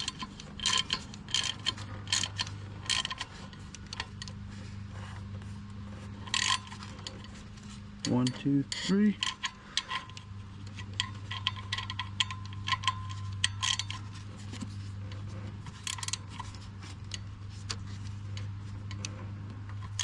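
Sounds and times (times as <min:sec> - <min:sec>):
ratchet clicking: 0:00.0 - 0:04.4, 0:06.2 - 0:20.0.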